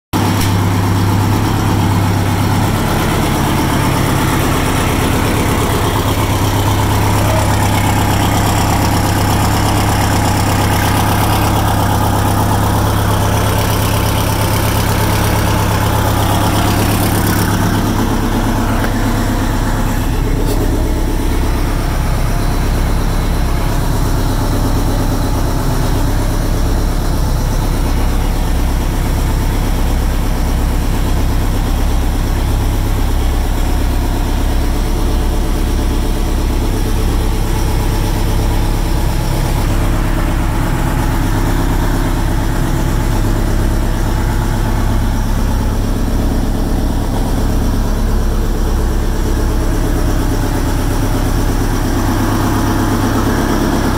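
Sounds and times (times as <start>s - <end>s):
diesel engine idling: 0.1s - 53.9s.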